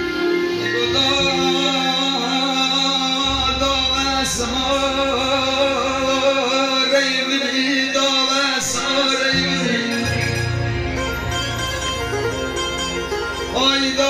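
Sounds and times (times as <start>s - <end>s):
man singing into a microphone: 0.0s - 11.4s, 13.4s - 14.0s
electronic keyboard melody: 0.0s - 14.0s.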